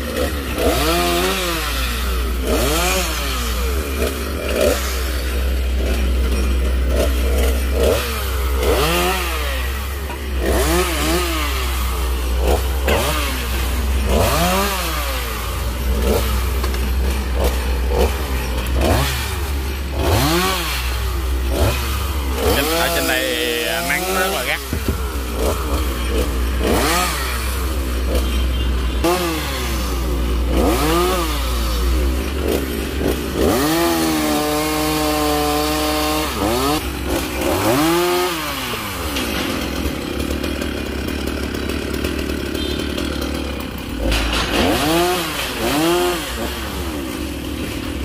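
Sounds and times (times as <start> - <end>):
chainsaw revving: 0.0 - 48.0.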